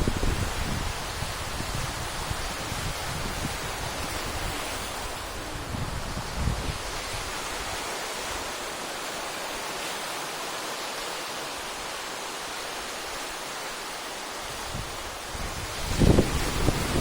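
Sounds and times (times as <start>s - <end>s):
surf breaking on rocky shore: 0.0s - 17.0s.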